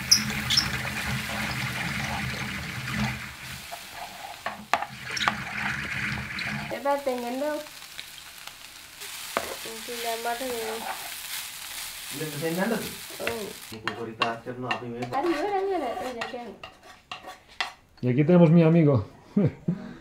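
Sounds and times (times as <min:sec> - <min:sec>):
food sizzling in oil: 0:00.0 - 0:17.8.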